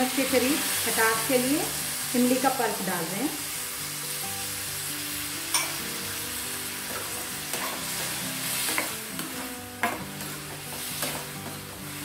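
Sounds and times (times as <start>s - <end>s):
onions and tomatoes sizzling: 0.0s - 12.0s.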